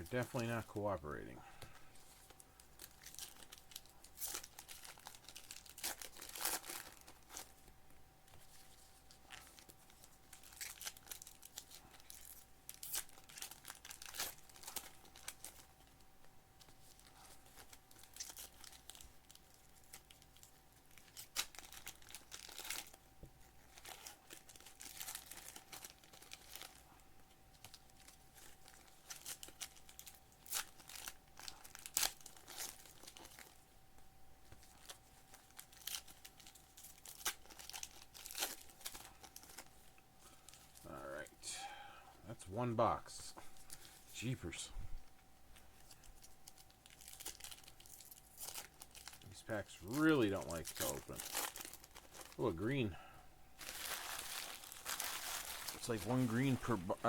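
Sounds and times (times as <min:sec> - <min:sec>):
card wrappers crinkling and tearing: 0:00.0 - 0:07.7, 0:08.3 - 0:16.0, 0:16.6 - 0:33.8, 0:34.4 - 0:41.2, 0:42.8 - 0:44.6, 0:45.5 - 0:53.0, 0:53.6 - 0:57.0.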